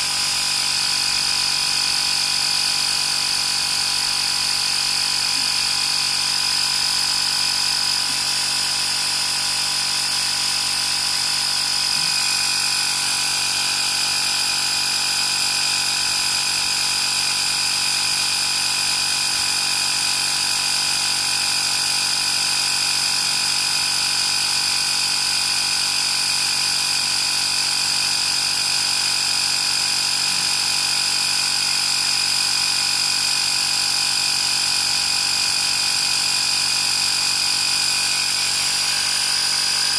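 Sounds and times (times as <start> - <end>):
air compressor whining drone: 0.0 - 39.9.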